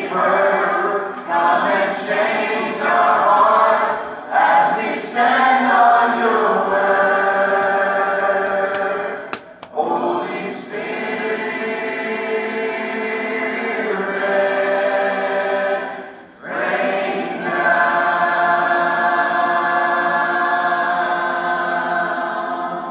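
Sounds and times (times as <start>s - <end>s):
choir singing held chords: 0.0s - 9.2s, 9.8s - 22.9s.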